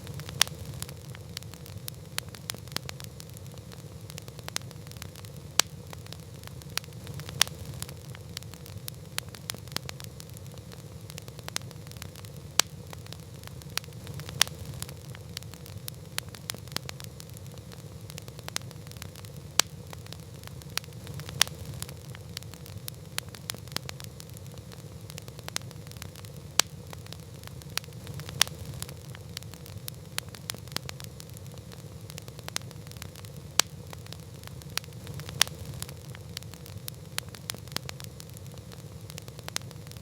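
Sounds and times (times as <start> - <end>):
campfire crackling: 0.0 - 40.0
low rumble of flames: 0.0 - 40.0.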